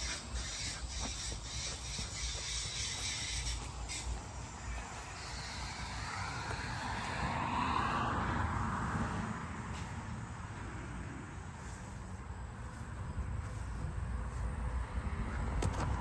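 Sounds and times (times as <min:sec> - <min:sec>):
steady low rumble: 0:00.0 - 0:16.0
vehicle passing by: 0:00.0 - 0:16.0.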